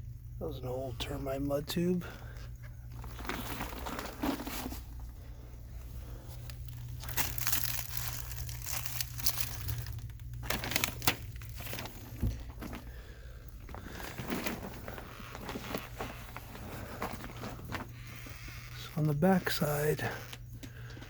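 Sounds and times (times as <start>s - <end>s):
steady low hum: 0.0s - 21.0s
plastic sheeting crinkling: 2.8s - 20.4s.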